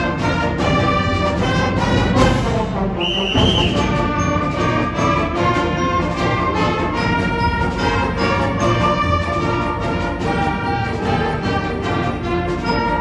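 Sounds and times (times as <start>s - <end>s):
brass and woodwinds holding chords: 0.0s - 13.0s
percussion strikes: 0.0s - 13.0s.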